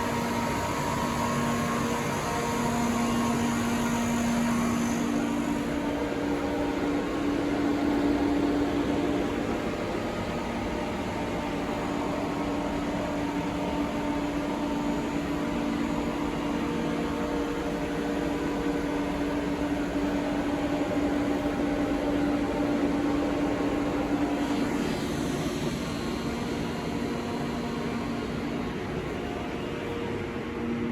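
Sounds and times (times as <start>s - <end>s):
lathe machine hum: 0.0s - 30.9s.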